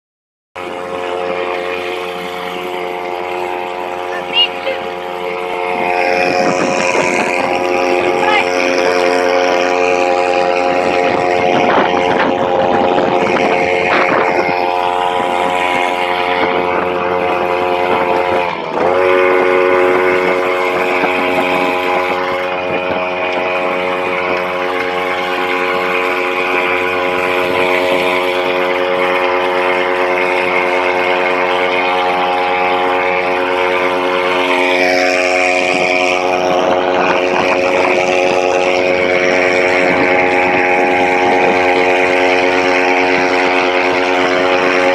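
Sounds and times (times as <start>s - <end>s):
engine running: 0.6s - 44.9s.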